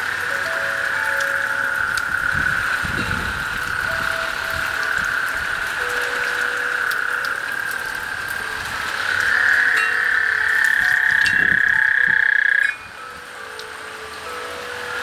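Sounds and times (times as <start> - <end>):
frogs trilling: 0.0 - 15.0
heavy rain hiss: 0.0 - 15.0.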